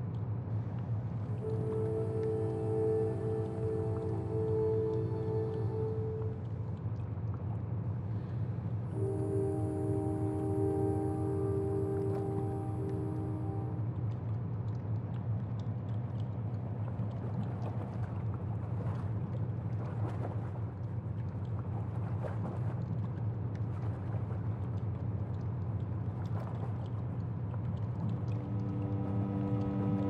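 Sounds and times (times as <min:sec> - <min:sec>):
faint bubbling and pops: 0:00.0 - 0:09.6, 0:10.3 - 0:30.0
underwater low rumble: 0:00.0 - 0:30.0.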